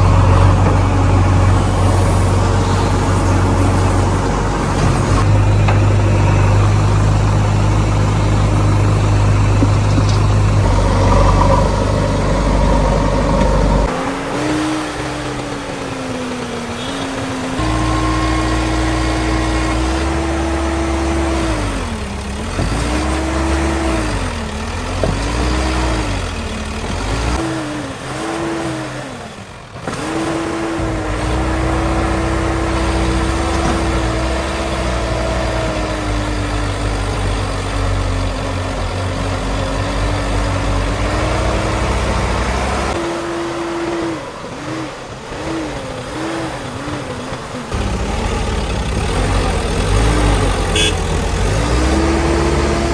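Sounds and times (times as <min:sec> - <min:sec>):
diesel engine working under load: 0:00.0 - 0:52.9.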